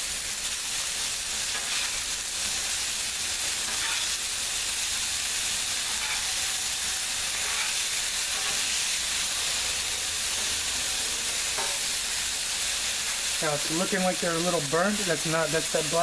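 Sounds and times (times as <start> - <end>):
burger patties sizzling on griddle: 0.0 - 16.0.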